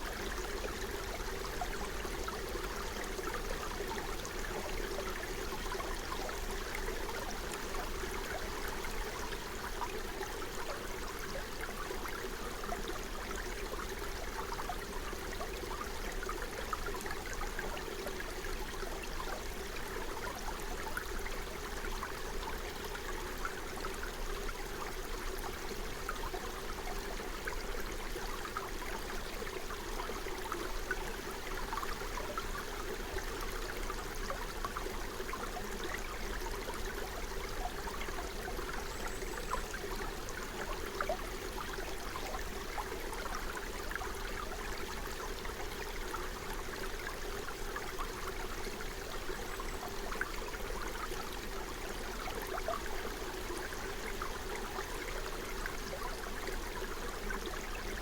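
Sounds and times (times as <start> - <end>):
stream water bubbling: 0.0 - 58.0.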